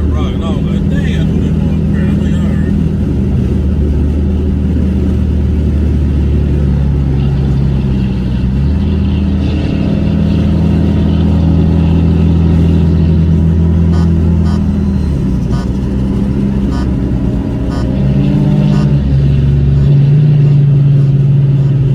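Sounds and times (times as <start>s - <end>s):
car engine humming: 0.0s - 21.9s.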